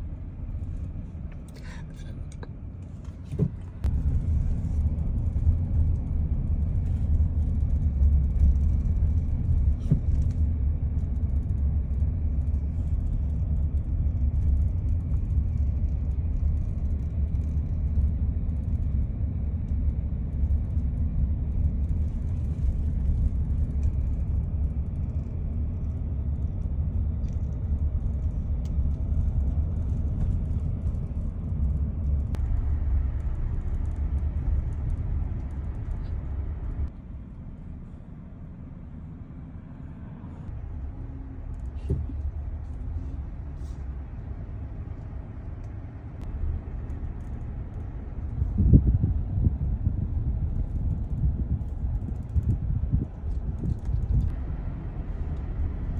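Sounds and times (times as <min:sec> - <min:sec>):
car interior rumble: 0:00.0 - 0:55.9.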